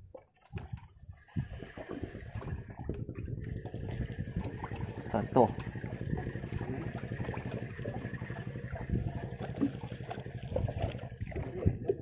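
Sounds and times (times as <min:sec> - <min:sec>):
water slapping against boat hull: 0:00.0 - 0:12.0
steady low rumble: 0:00.7 - 0:12.0.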